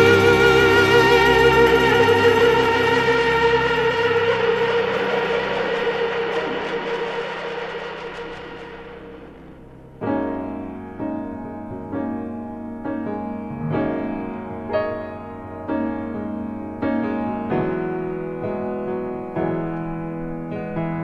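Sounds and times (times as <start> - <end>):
slow keyboard chords: 0.0 - 21.0.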